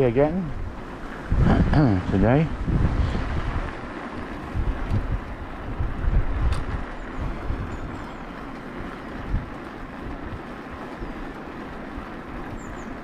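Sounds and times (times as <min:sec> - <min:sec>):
e-bike rolling rumble: 0:00.0 - 0:13.0
wind buffeting microphone: 0:00.0 - 0:13.0.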